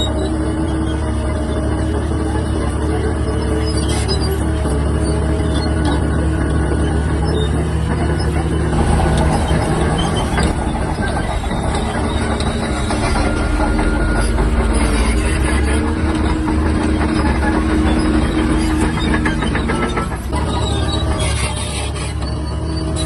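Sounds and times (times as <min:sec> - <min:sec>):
bulldozer diesel engine: 0:00.0 - 0:23.0
steel tracks clattering: 0:01.8 - 0:23.0.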